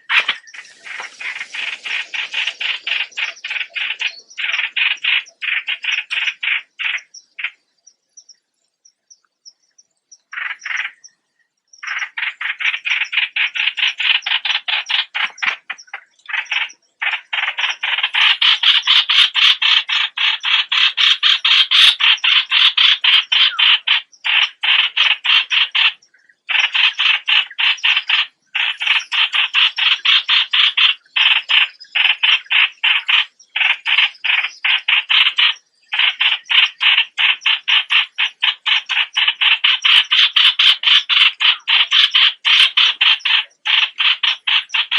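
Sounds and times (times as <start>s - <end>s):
bird calling rapid repeated notes: 0.0s - 7.6s, 10.3s - 11.1s, 11.8s - 44.9s.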